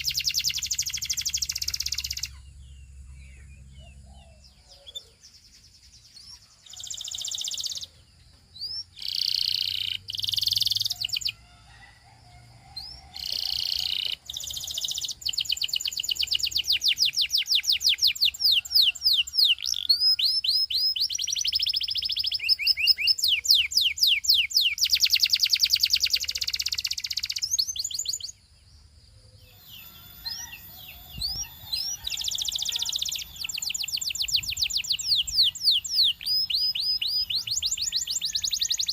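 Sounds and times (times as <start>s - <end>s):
canary singing: 0.0s - 28.6s, 29.4s - 38.9s.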